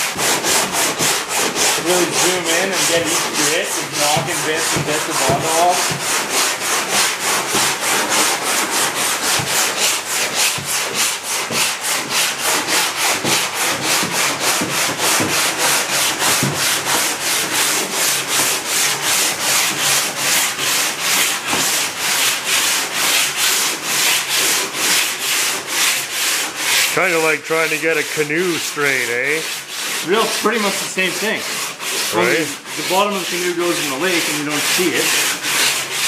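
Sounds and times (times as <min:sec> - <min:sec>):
sandpaper scraping on a block: 0:00.0 - 0:36.0.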